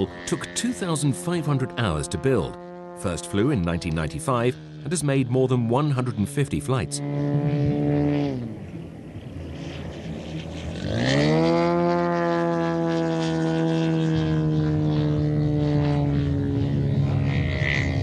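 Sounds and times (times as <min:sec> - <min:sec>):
model aircraft engine and propeller: 0:00.0 - 0:18.0.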